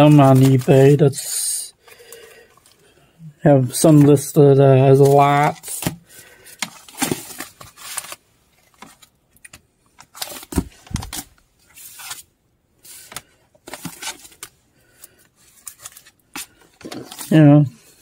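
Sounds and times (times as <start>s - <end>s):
paper items rustling and scraping: 0.0s - 3.0s, 3.7s - 18.0s.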